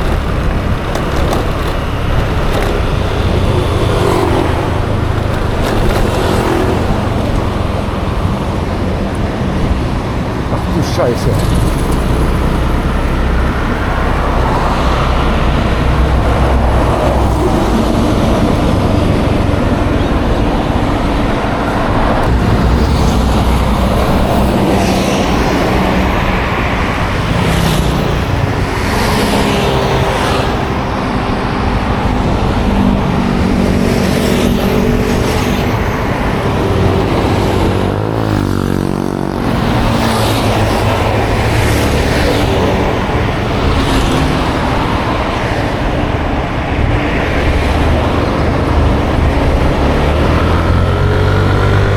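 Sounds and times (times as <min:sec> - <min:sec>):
scooter engine running: 0:00.0 - 0:51.9
vehicles passing: 0:00.0 - 0:51.9.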